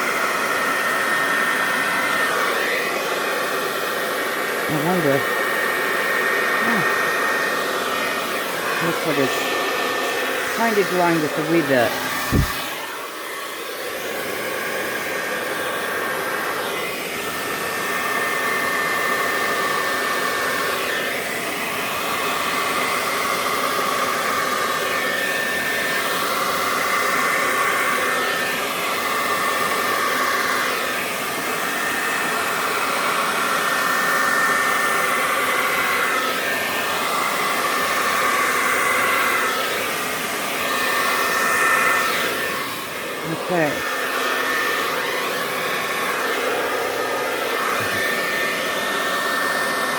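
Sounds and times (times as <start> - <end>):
blow dryer whining: 0.0 - 49.9.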